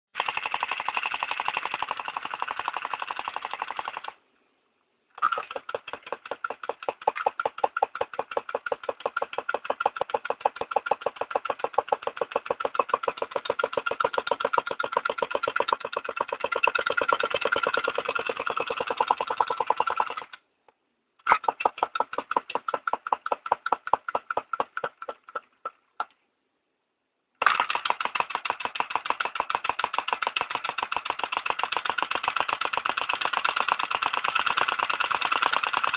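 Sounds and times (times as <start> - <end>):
small engine knocking: 0.1 - 4.2, 5.2 - 20.4, 21.2 - 26.1, 27.4 - 35.9.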